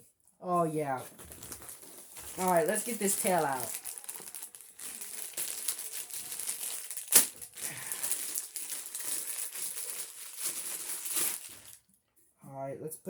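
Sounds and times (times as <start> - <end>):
packaging crinkling and rustling: 0.9 - 11.9
sharp loud packaging crackle: 1.0 - 11.9.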